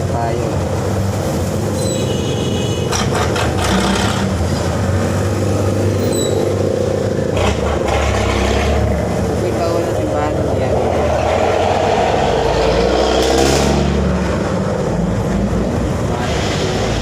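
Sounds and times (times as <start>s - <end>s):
rushes of noise: 2.9s - 17.0s.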